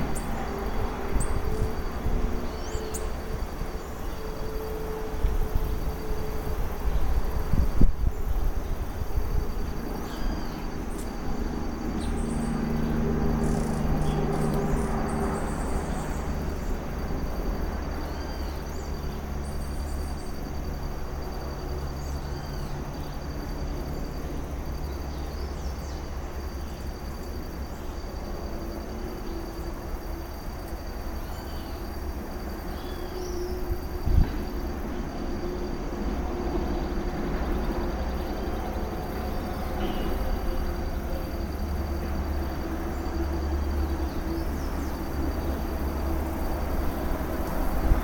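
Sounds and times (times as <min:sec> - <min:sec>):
cricket trilling: 0:00.0 - 0:48.0.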